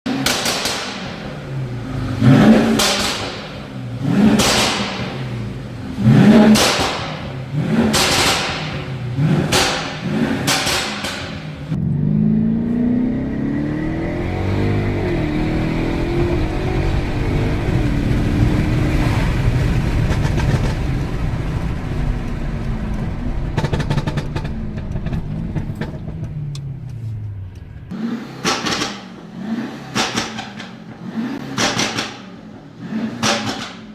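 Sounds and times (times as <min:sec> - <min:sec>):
car engine revving: 0:00.0 - 0:33.9
exhaust crackling: 0:00.1 - 0:33.9.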